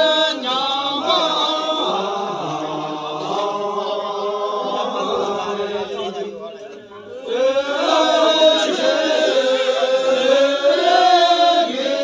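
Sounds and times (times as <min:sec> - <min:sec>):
voices chanting: 0:00.0 - 0:12.0.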